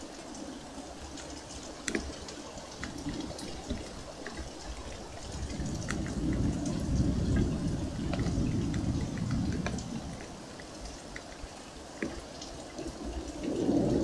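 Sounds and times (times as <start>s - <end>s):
steady rain falling: 0.0s - 14.0s
low rumble of thunder: 1.8s - 14.0s.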